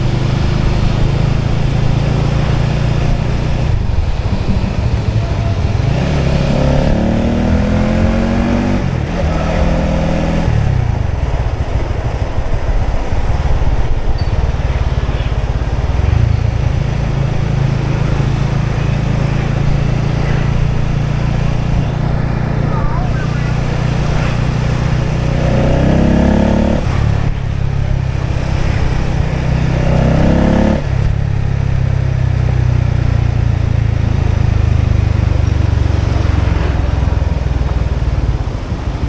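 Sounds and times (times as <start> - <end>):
motorbike engine running: 0.0 - 39.0.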